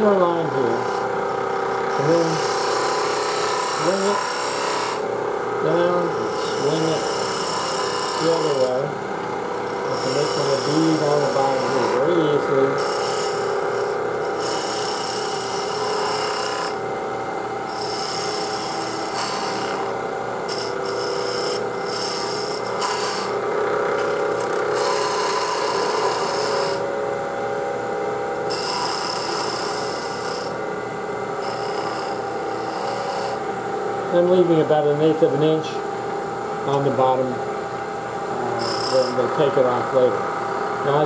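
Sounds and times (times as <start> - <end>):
gouge scraping spinning wood: 0.0 - 17.0, 17.6 - 27.1, 28.3 - 35.2, 38.5 - 40.2
wood lathe humming: 0.0 - 41.0.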